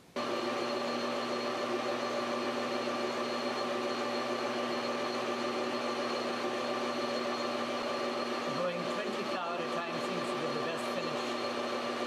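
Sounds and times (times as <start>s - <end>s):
metal lathe motor whine: 0.0s - 12.0s.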